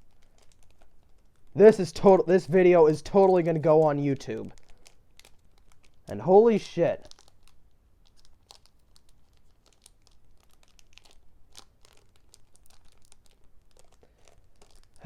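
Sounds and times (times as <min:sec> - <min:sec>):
small clicks and crackles: 0:00.0 - 0:01.9, 0:03.0 - 0:06.2, 0:07.0 - 0:15.0
foil wrapper crinkling: 0:00.0 - 0:15.0
trading cards being handled: 0:00.0 - 0:15.0.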